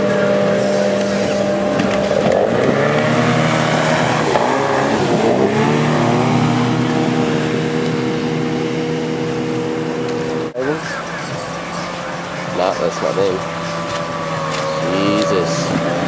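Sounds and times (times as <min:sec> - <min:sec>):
outboard motor running hard: 0:00.0 - 0:16.0
rush of rapids: 0:00.0 - 0:16.0.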